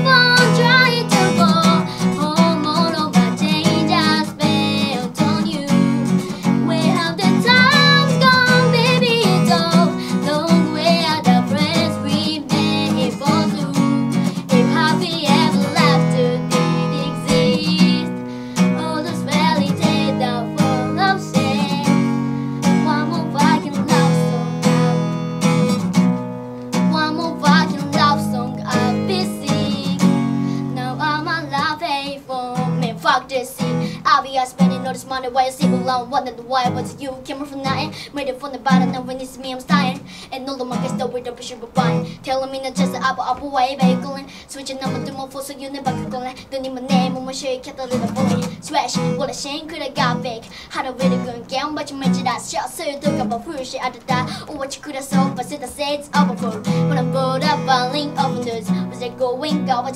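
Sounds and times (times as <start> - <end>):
person singing: 0.0 - 25.2, 26.8 - 59.9
acoustic guitar strumming: 0.0 - 59.9.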